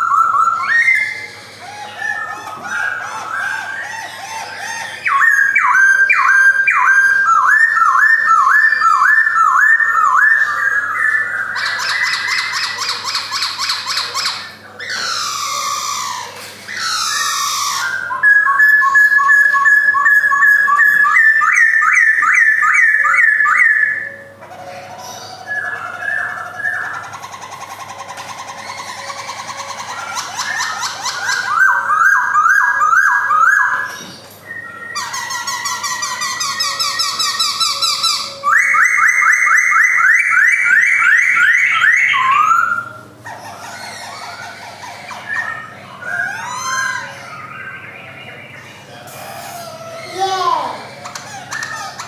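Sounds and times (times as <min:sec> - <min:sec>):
bird singing whistled phrases: 0:00.0 - 0:27.3, 0:28.0 - 0:50.8.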